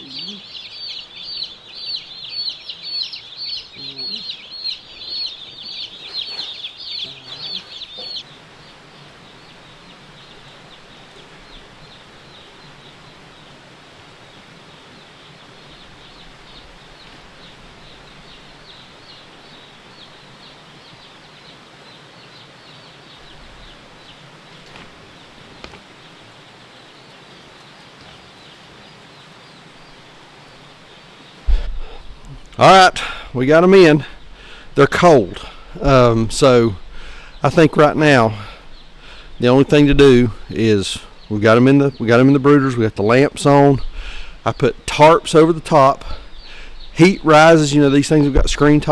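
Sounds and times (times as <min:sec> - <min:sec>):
chicks peeping: 0:00.0 - 0:25.8, 0:26.6 - 0:48.9.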